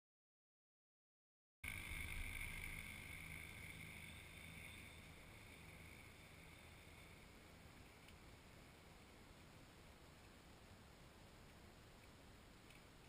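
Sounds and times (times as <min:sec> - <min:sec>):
low hum with hiss: 0:01.6 - 0:13.0.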